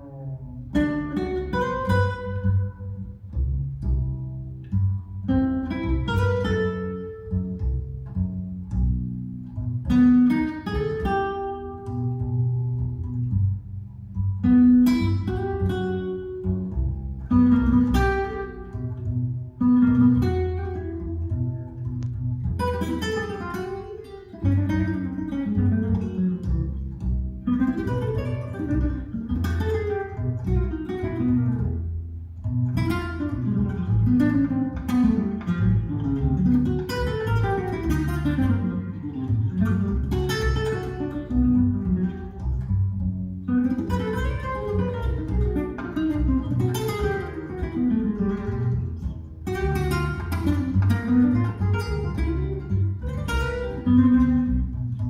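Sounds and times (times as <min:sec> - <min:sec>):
double bass line: 0:00.0 - 0:55.0
plucked acoustic guitar jazz: 0:00.0 - 0:55.0.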